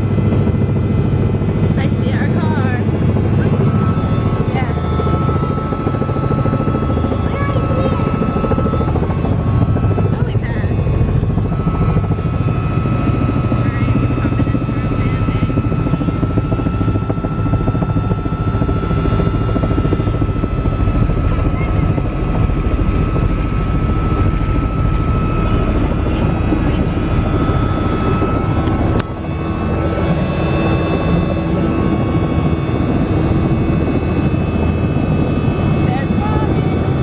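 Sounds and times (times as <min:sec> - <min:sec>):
helicopter engine and rotor drone: 0:00.0 - 0:37.0.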